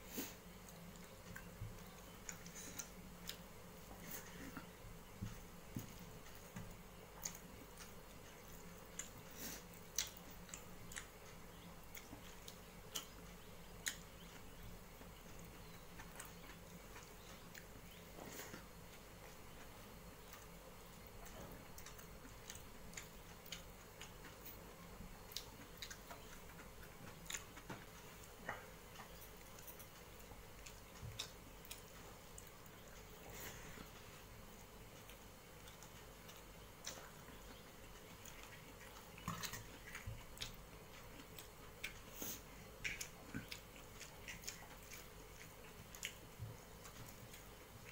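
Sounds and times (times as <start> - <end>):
chewing smacks: 0.2 - 47.9.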